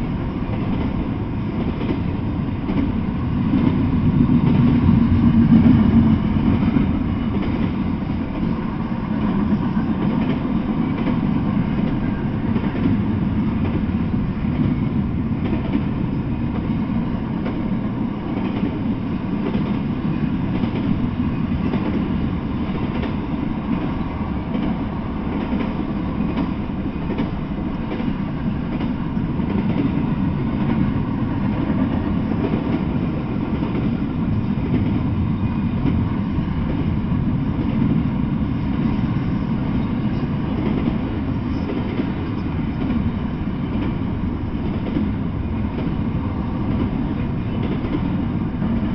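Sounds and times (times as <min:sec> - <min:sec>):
freight train wheels on rails: 0:00.0 - 0:48.9.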